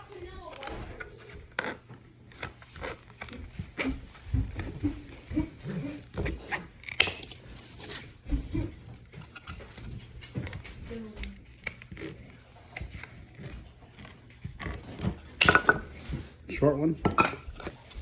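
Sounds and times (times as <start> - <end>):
plastic parts being cut: 0.1 - 16.3.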